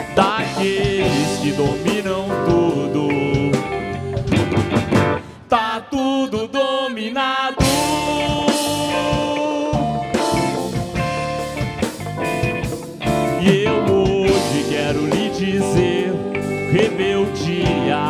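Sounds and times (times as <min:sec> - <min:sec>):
live band playing: 0:00.0 - 0:05.5, 0:07.6 - 0:18.0.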